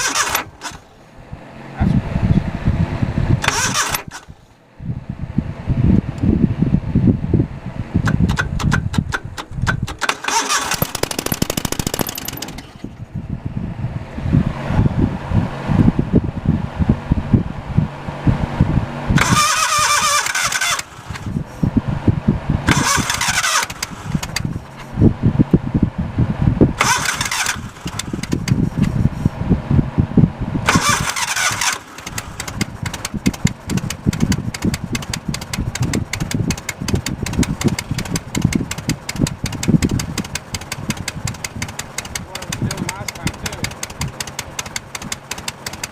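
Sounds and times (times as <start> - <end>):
engine running rough: 0.0 - 45.9.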